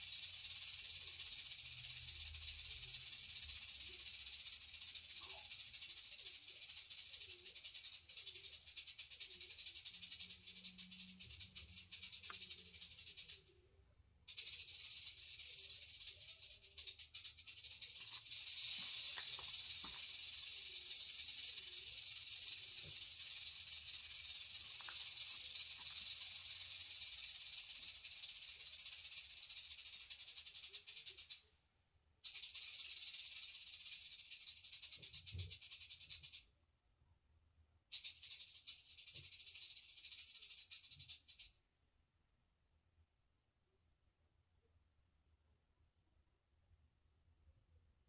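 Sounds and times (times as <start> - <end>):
rattlesnake rattling: 0.0 - 31.6, 32.2 - 36.5, 37.9 - 41.6.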